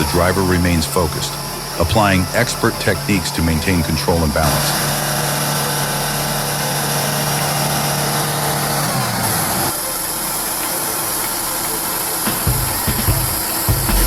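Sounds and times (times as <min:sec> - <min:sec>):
truck diesel engine under load: 0:00.0 - 0:12.3.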